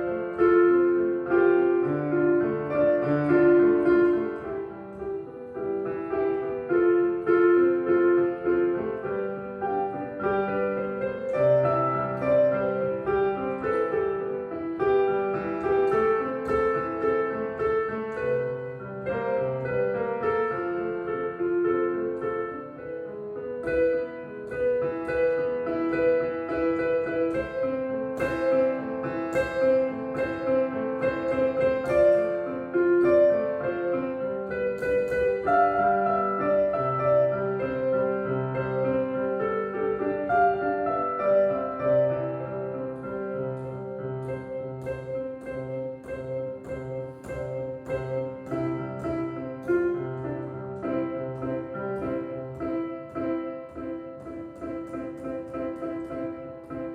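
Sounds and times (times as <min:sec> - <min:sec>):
piano melody over chords: 0:00.0 - 0:56.9.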